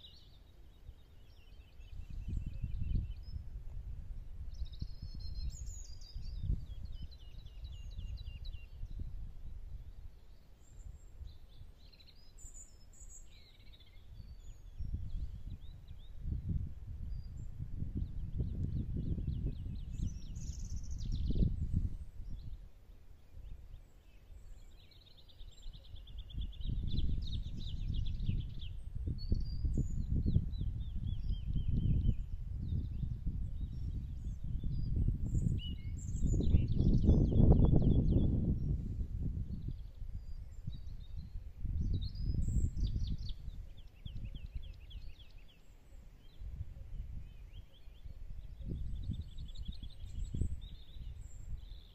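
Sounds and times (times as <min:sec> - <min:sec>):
wind buffeting microphone: 0:00.0 - 0:45.6, 0:46.2 - 0:51.9
small bird chirping: 0:04.4 - 0:09.2, 0:09.8 - 0:38.8, 0:39.4 - 0:51.9.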